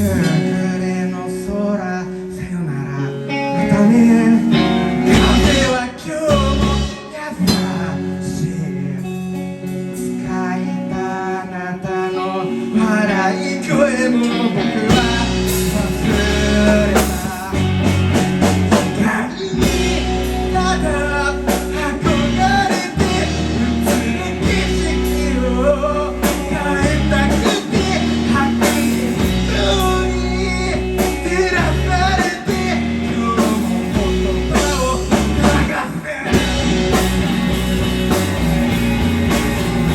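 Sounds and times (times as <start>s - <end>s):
live band playing: 0.0s - 10.6s, 12.0s - 39.9s
guitar: 0.0s - 39.9s.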